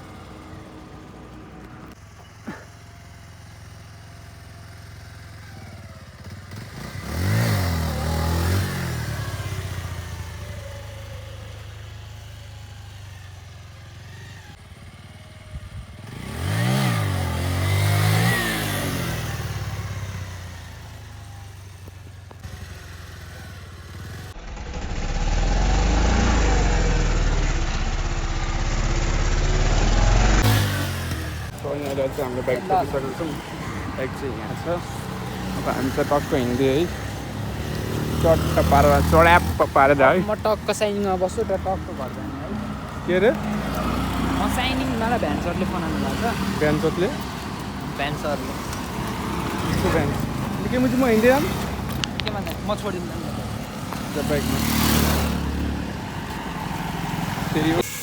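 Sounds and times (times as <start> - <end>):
motorcycles passing by: 0.0 - 58.0.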